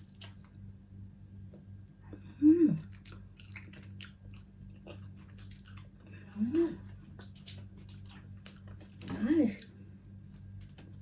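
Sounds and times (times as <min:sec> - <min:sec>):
person chewing food: 0:00.0 - 0:00.7, 0:02.8 - 0:11.0.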